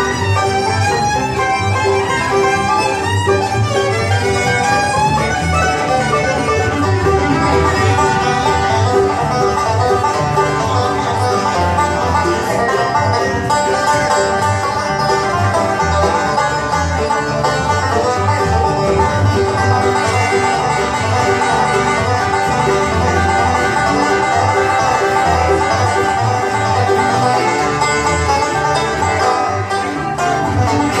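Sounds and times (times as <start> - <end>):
acoustic guitar: 0.0 - 31.0
banjo picking: 0.0 - 31.0
fiddle: 0.0 - 31.0
mandolin: 0.0 - 31.0
upright bass: 0.0 - 31.0.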